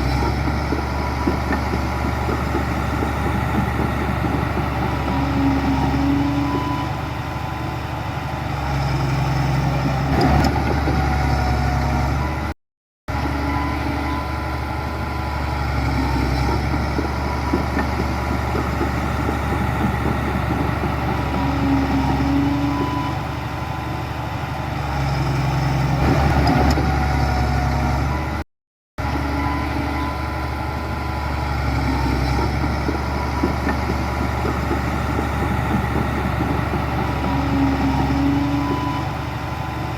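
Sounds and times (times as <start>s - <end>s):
heavy machinery diesel engines: 0.0s - 28.4s, 29.0s - 39.9s.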